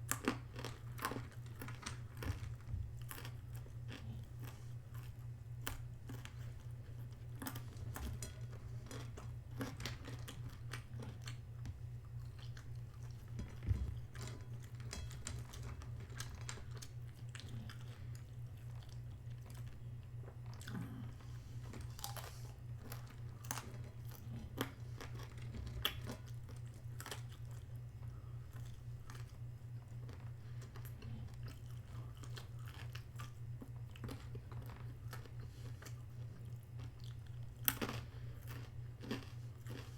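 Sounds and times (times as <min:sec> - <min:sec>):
crunchy chewing: 0:00.0 - 0:39.9
steady low hum: 0:00.0 - 0:39.9.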